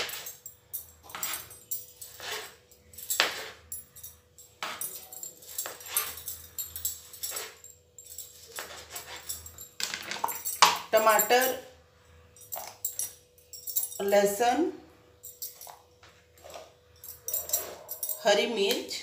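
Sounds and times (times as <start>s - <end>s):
bangles jingling: 0.0s - 14.6s, 15.2s - 19.0s.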